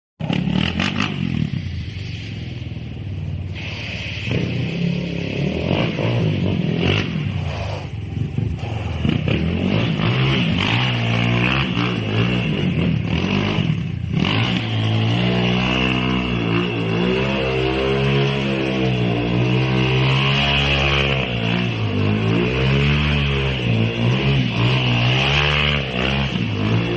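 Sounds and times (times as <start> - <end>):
motorcycle engines revving: 0.2 - 26.9.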